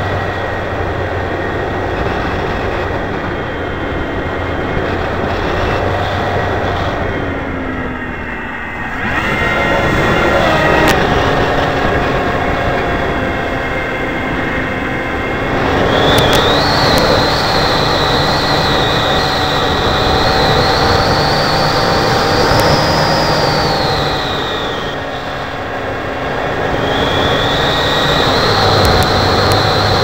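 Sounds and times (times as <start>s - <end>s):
model plane motor whine: 0.0s - 30.0s
wind rushing over camera: 0.0s - 30.0s.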